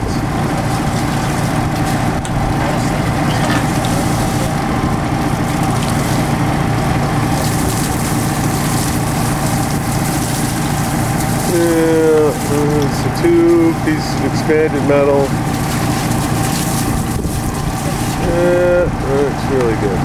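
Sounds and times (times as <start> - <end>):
water pump engine humming: 0.0 - 20.0.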